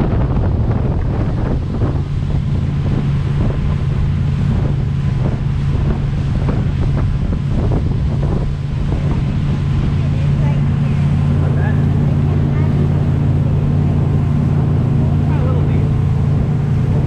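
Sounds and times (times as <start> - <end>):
motorboat engine running: 0.0 - 17.0
rushing water: 0.0 - 17.0
wind buffeting microphone: 0.0 - 17.0.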